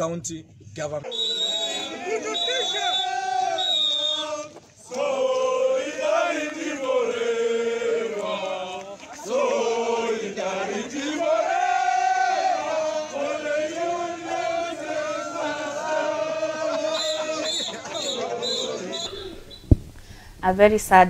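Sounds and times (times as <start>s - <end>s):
crowd chanting in song: 1.0s - 19.6s.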